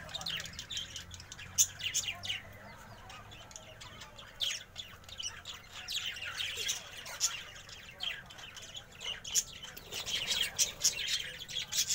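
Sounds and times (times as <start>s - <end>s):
budgerigars chattering: 0.0s - 11.9s.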